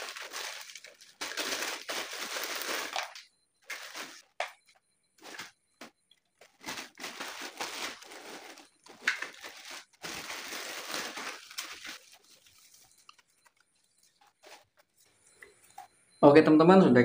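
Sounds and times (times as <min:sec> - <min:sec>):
plastic bag crinkling: 0:00.0 - 0:04.5, 0:05.2 - 0:15.1.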